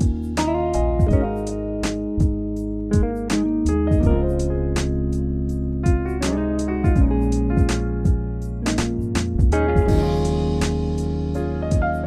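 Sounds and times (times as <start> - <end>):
instrumental music with guitar: 0.0 - 12.0.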